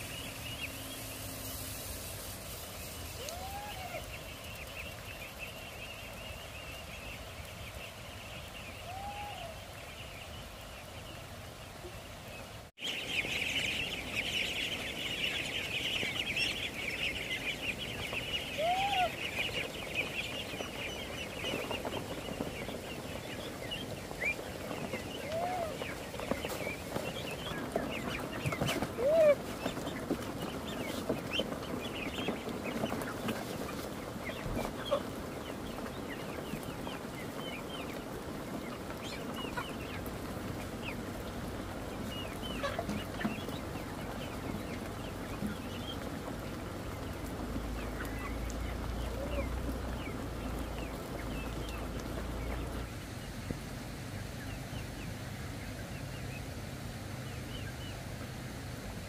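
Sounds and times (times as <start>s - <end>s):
chickens clucking: 0.0s - 7.8s, 12.8s - 56.6s
ducklings and chicks peeping: 0.0s - 59.0s.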